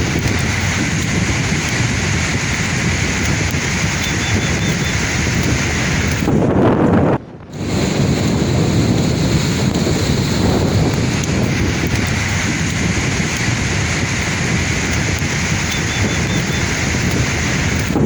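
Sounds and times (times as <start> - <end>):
sea waves breaking: 0.0 - 6.6, 7.5 - 18.0
wind buffeting microphone: 0.0 - 18.0.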